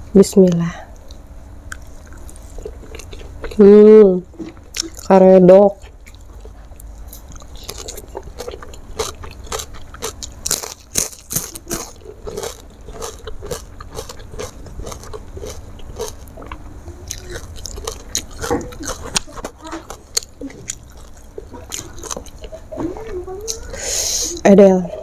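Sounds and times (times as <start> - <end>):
crunchy chewing of raw vegetables: 0.5 - 24.4.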